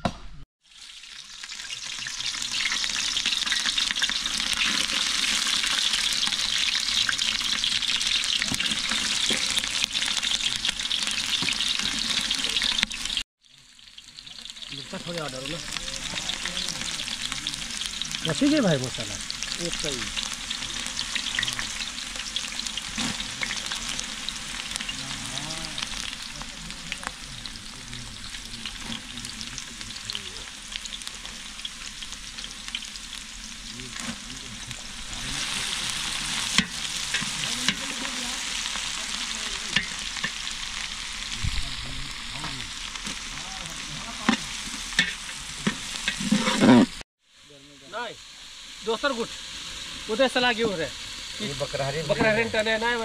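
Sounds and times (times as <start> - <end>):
shallots sizzling in hot oil: 0.6 - 53.0.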